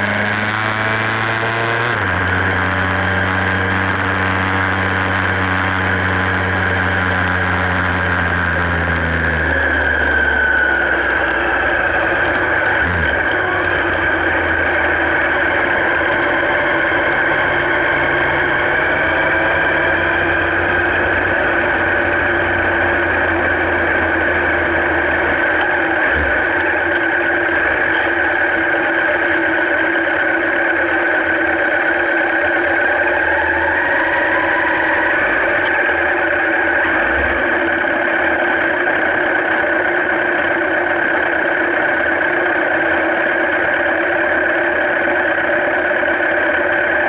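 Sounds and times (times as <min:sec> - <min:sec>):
vehicle mechanical drone: 0:00.0 - 0:47.0.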